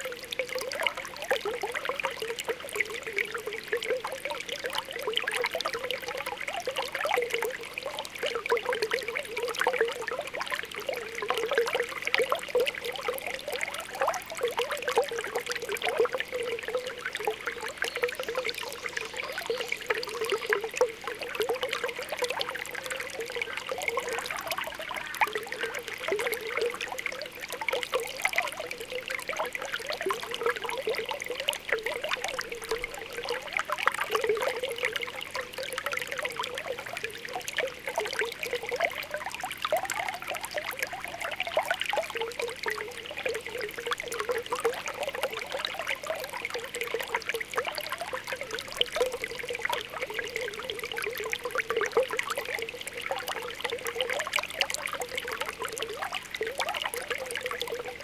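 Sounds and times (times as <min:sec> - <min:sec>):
spring water trickling and bubbling: 0:00.0 - 0:58.0.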